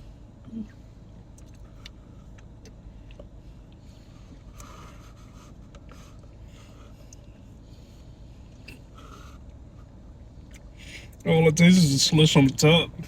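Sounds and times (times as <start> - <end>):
car idling inside cabin: 0.0 - 13.0.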